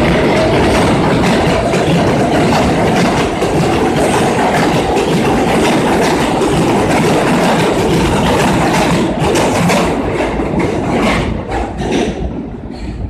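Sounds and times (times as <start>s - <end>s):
subway train rumble and wheel clatter: 0.0s - 13.0s.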